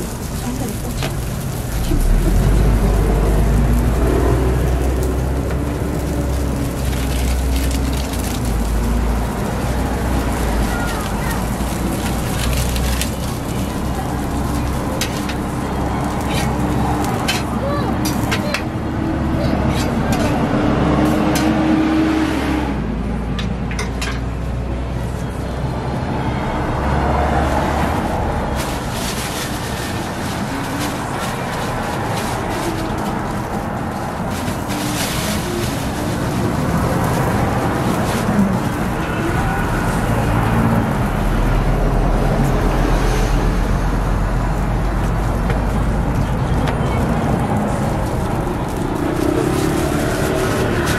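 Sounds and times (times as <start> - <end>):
passing road traffic rumble: 0.0 - 50.9.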